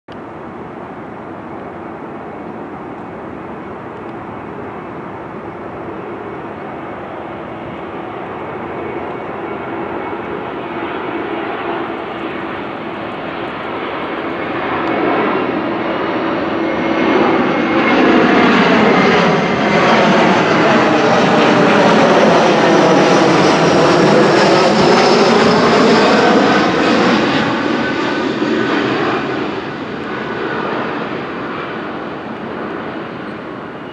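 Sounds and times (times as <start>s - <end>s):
jet airliner passing overhead: 0.1s - 33.9s.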